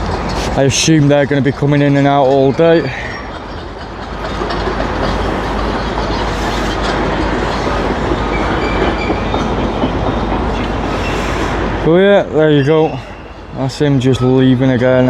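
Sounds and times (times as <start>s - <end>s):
heavy truck engine rumbling: 0.0s - 15.0s
loaded trailer rattling and clanking: 0.0s - 15.0s.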